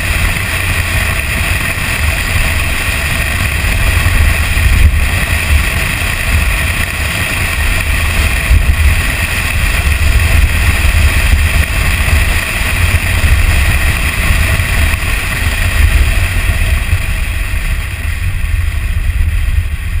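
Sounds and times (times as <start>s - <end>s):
road and engine noise: 0.0s - 20.0s
wind buffeting microphone: 0.0s - 20.0s.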